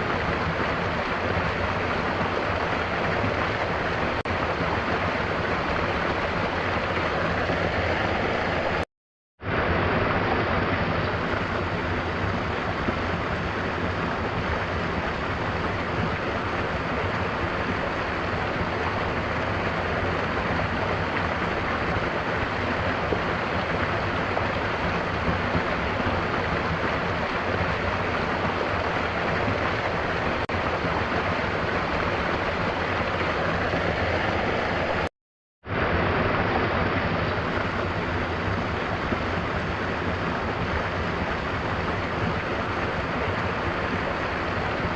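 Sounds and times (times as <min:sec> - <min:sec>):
waterfall rushing: 0:00.0 - 0:08.8, 0:09.5 - 0:35.1, 0:35.7 - 0:44.9.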